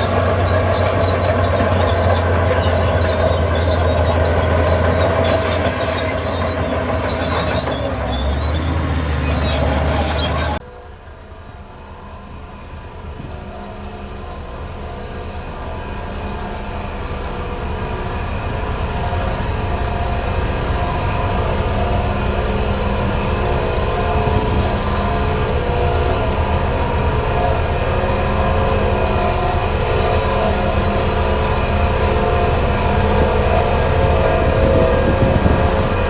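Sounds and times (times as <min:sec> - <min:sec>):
diesel construction machinery running: 0:00.0 - 0:36.0.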